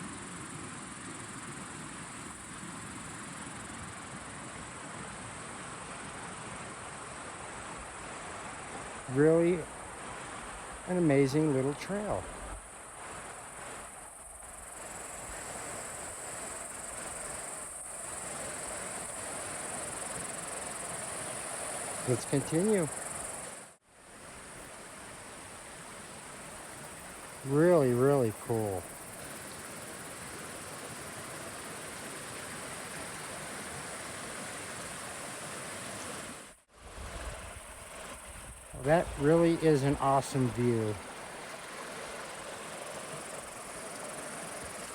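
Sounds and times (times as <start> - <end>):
creek water rushing: 0.0 - 44.9
high-pitched insect chorus: 0.0 - 44.9
soft even hiss: 0.0 - 44.9.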